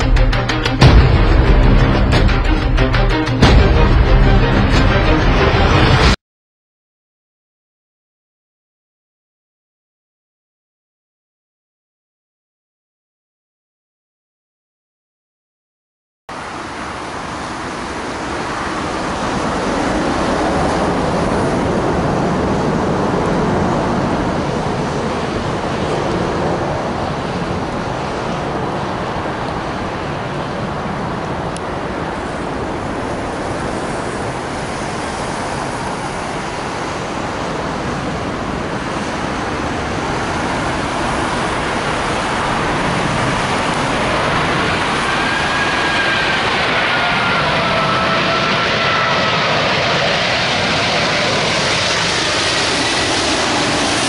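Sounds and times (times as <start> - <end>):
jet roar: 0.0 - 6.2, 16.3 - 54.0
rising jet whine: 0.0 - 6.2, 16.3 - 54.0.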